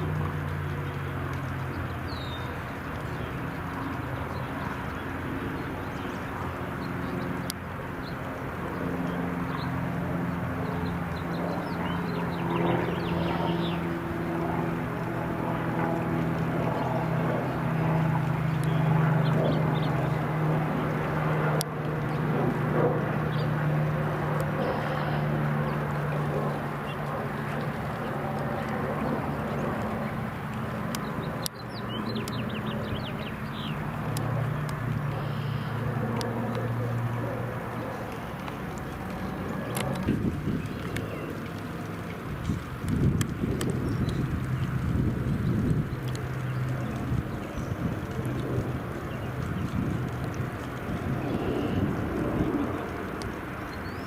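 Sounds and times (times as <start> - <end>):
small birds chirping: 0.0 - 9.7, 10.6 - 14.0, 16.6 - 22.4, 24.4 - 36.9, 37.7 - 54.0
aircraft engine drone: 0.0 - 54.0.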